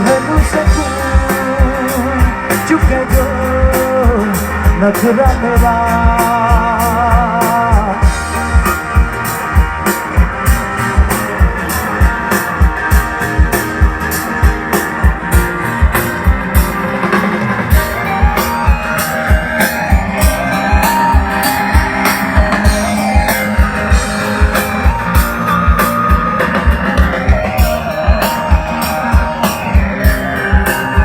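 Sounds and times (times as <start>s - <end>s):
drum kit beat: 0.0s - 31.0s
guitar and instruments: 0.0s - 31.0s
lead guitar line sliding upward: 0.0s - 31.0s.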